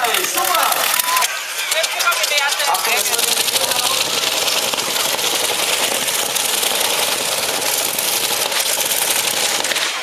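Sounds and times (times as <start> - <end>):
tractor engine running loudly: 0.0 - 10.0.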